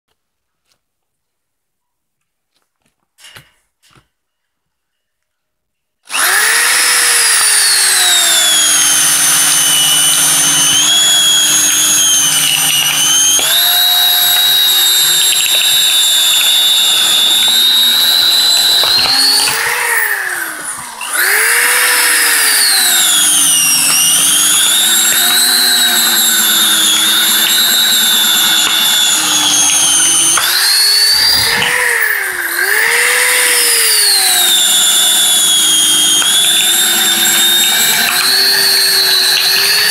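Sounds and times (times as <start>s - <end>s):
cordless drill motor whine: 6.1s - 39.9s.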